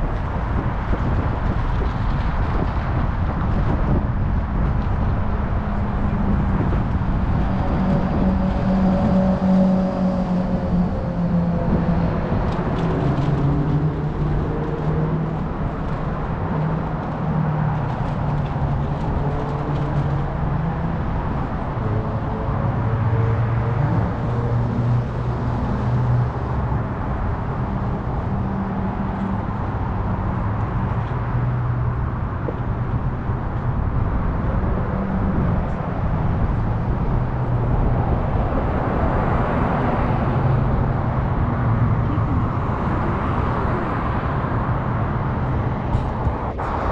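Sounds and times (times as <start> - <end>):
road rumble: 0.0 - 46.9.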